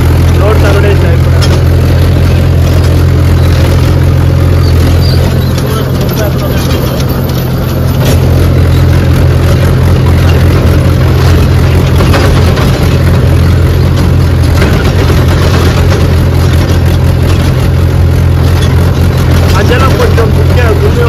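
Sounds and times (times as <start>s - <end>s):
tractor diesel engine humming: 0.0s - 21.0s.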